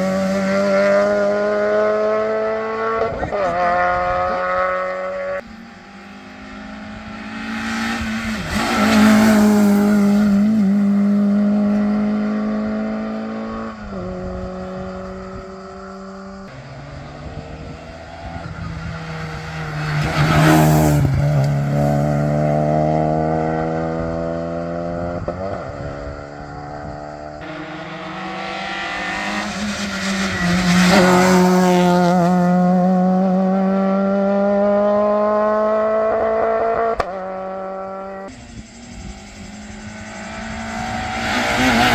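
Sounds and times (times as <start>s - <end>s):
rally cars passing at speed: 0.0s - 41.9s.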